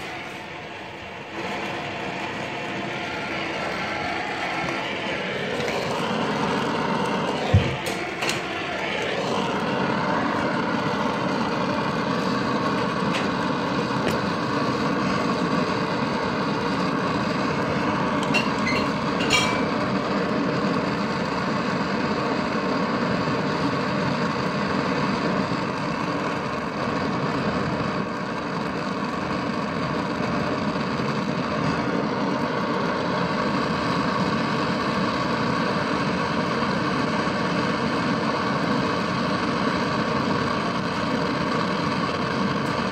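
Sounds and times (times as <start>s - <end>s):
torch flame hissing: 0.0s - 42.9s.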